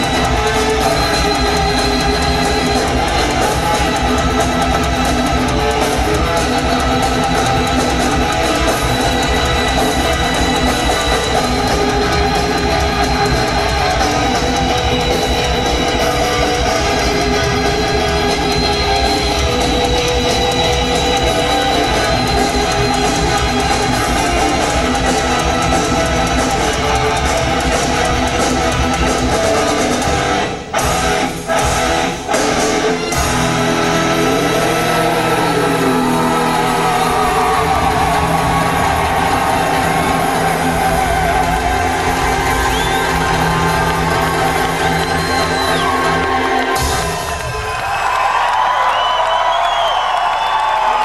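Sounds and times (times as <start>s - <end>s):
bass guitar: 0.0s - 47.5s
electric guitar: 0.0s - 47.8s
drum beat: 0.0s - 48.0s.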